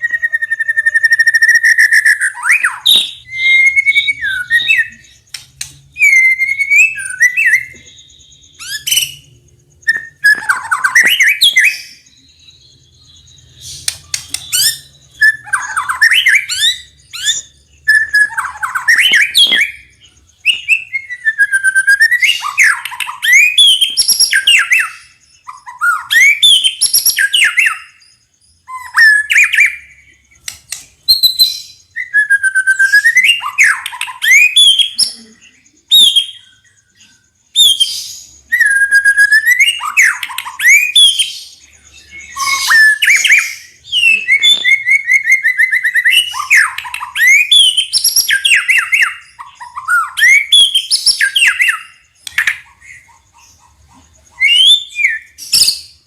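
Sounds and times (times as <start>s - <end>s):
bird singing clear whistles: 0.0s - 56.0s.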